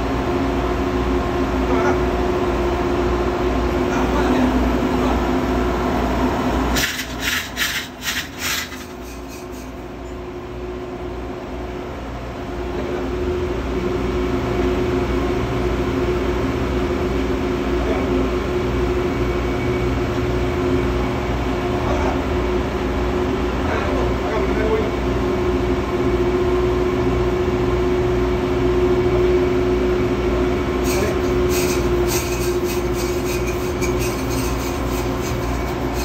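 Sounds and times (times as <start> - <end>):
engine room machinery hum: 0.0 - 36.0.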